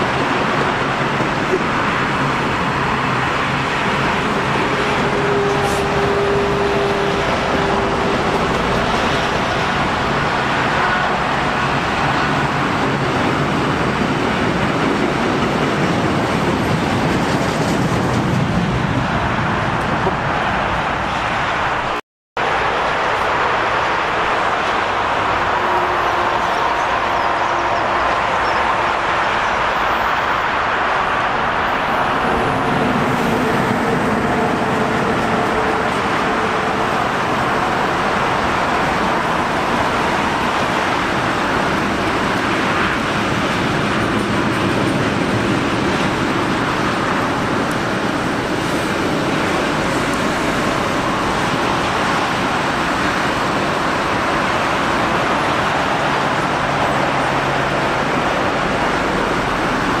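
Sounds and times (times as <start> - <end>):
steady vehicle noise: 0.0 - 60.0.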